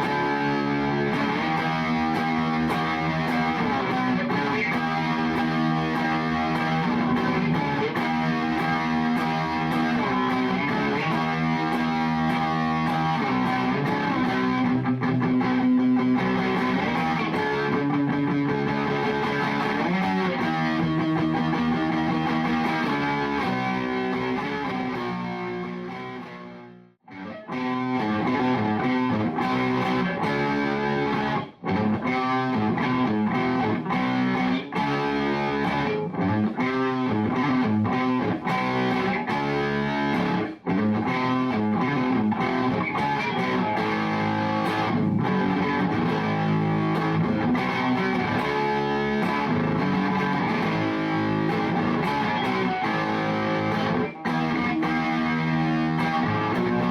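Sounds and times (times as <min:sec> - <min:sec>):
music with distorted electric guitar: 0:00.0 - 0:56.9.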